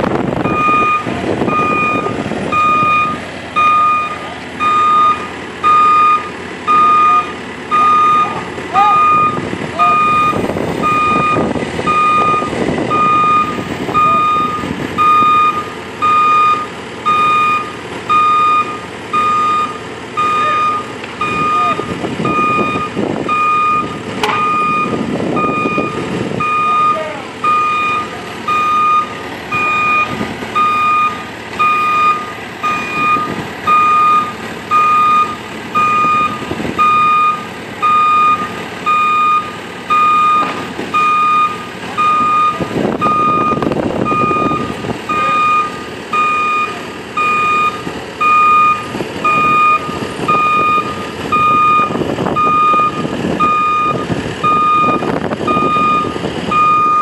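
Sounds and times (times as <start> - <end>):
backup alarm beeping: 0.4 - 57.0.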